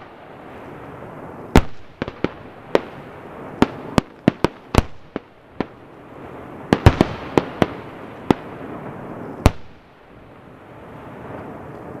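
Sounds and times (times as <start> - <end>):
continuous rumble: 0.0 - 12.0.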